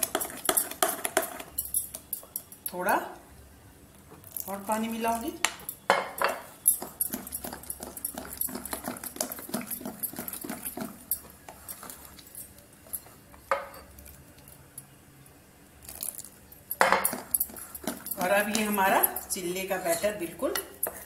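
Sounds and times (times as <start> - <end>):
spoon stirring thick batter: 0.0 - 2.6, 4.2 - 14.6, 15.8 - 21.0.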